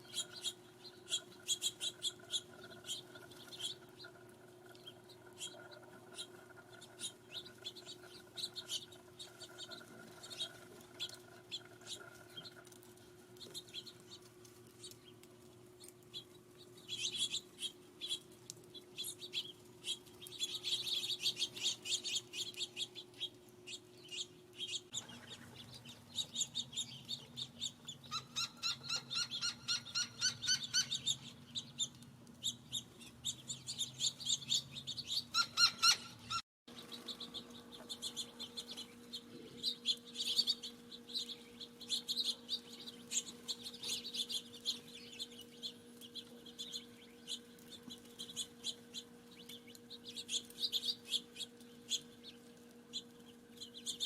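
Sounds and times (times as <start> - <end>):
faint steady hum: 0.0 - 54.0
small birds chirping: 0.0 - 54.0.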